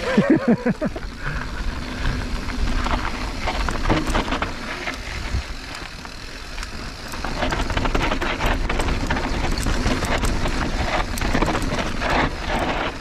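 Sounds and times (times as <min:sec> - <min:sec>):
bike clicks and rattles: 0:00.0 - 0:13.0
tyres crunching over dirt: 0:00.0 - 0:13.0.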